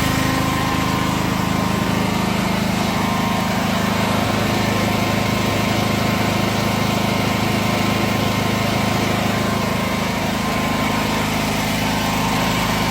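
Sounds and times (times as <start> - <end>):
generator engine running: 0.0 - 12.9.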